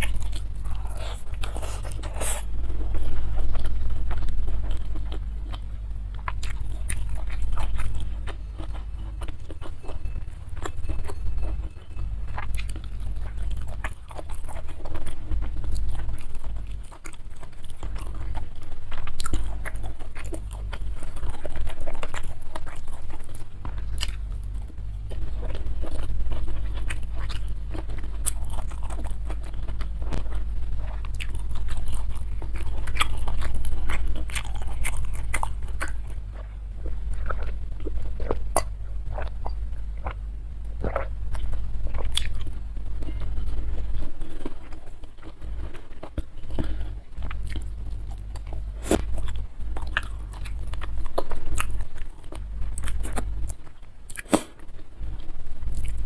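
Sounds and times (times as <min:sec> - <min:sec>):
chewing and biting food: 0:00.0 - 0:56.0
steady low hum: 0:00.0 - 0:56.0.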